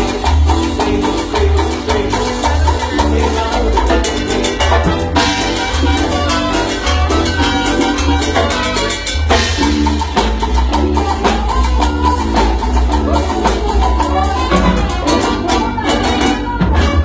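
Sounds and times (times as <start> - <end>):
salsa band music: 0.0 - 17.0.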